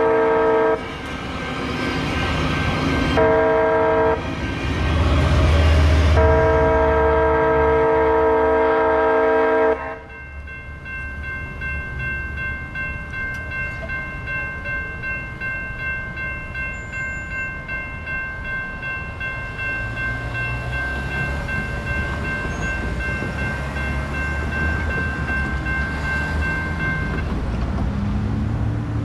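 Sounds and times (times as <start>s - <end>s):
crossing warning bell ringing: 0.0s - 27.4s
road traffic rumble: 0.0s - 29.0s.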